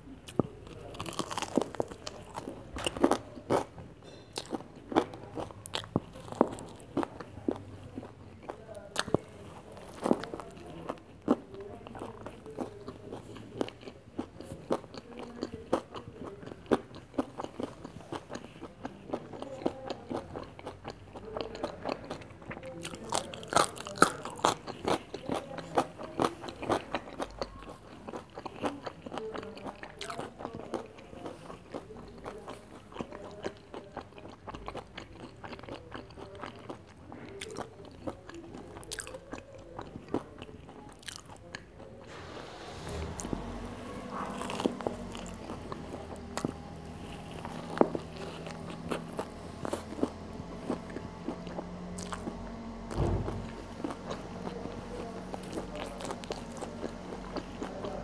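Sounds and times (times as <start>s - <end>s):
crunchy biting and chewing: 0.0s - 58.0s.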